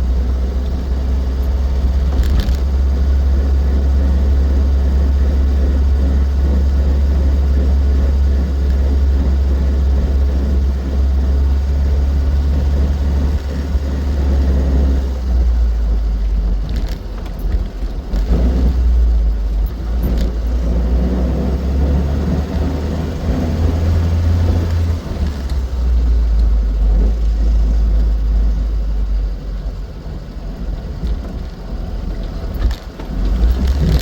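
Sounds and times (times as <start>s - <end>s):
car engine running: 0.0s - 34.0s
road noise: 0.0s - 34.0s.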